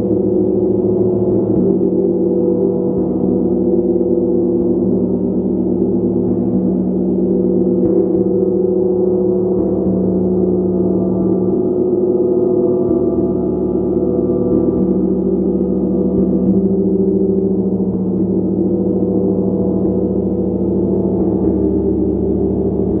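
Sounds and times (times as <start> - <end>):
gong sustained tones: 0.0 - 23.0.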